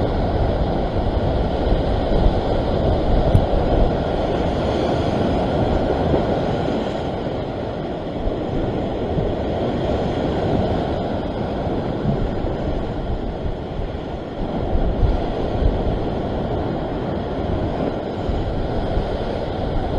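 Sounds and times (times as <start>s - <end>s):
ocean surf breaking over rocks: 0.0s - 19.9s
wind buffeting microphone: 0.0s - 19.9s.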